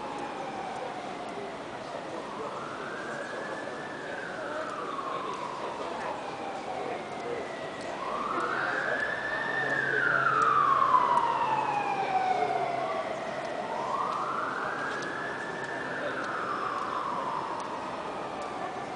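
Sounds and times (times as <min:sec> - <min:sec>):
emergency siren wailing: 0:00.0 - 0:18.9.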